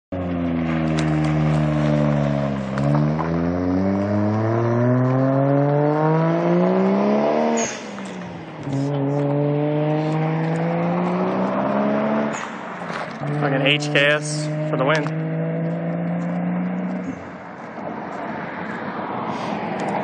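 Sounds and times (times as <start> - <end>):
car engine revving at full throttle: 0.1 - 20.0.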